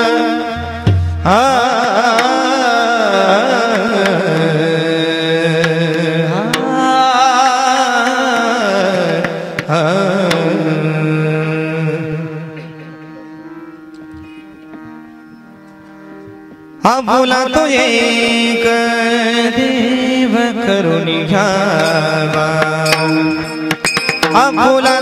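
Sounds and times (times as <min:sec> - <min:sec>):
man singing melismatic phrase: 0:00.0 - 0:13.4, 0:16.8 - 0:23.6, 0:24.3 - 0:25.0.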